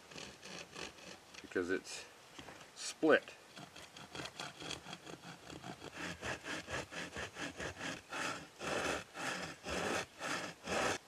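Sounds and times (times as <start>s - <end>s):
hand saw cutting wood: 0.0s - 1.6s, 3.5s - 11.0s.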